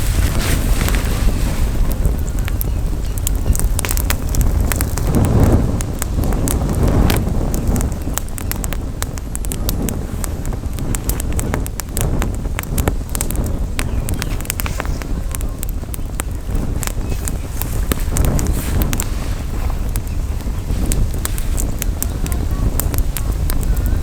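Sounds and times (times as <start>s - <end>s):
campfire crackling: 0.0s - 24.0s
wind rumble on microphone: 0.0s - 24.0s.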